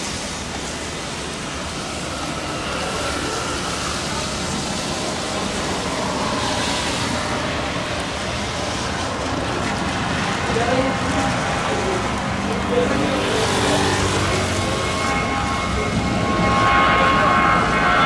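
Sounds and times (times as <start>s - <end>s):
heavy rain hissing: 0.0s - 18.0s
jet engines roaring: 0.0s - 18.0s.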